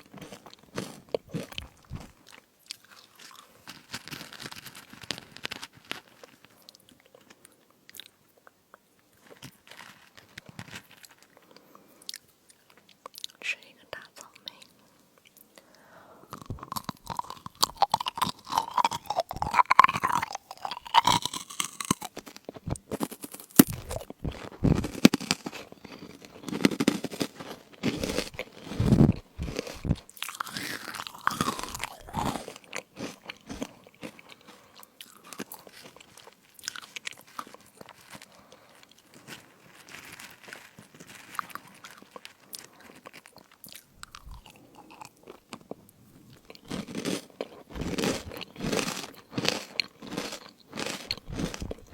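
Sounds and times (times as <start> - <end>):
crunchy crisps being chewed: 0.0 - 15.6, 16.3 - 51.9.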